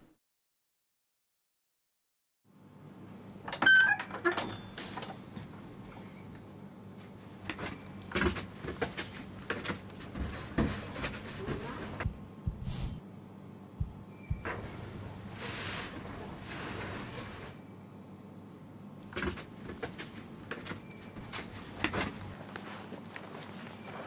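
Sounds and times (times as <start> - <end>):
faint steady hum: 4.4 - 24.0.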